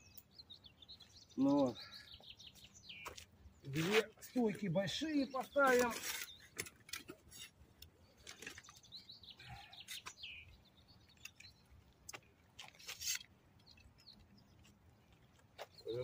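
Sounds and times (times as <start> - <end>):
bird chirps: 0.0 - 11.9, 12.7 - 16.0.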